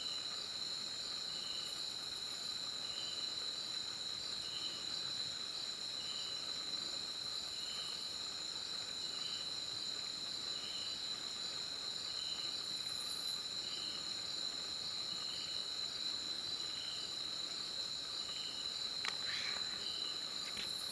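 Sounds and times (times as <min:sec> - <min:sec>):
crickets trilling: 0:00.0 - 0:20.9
lower insect chirp: 0:00.0 - 0:20.9.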